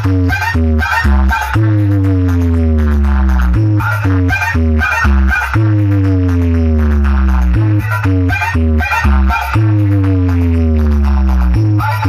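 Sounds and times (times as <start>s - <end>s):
electronic dance music with heavy bass: 0.0s - 12.0s.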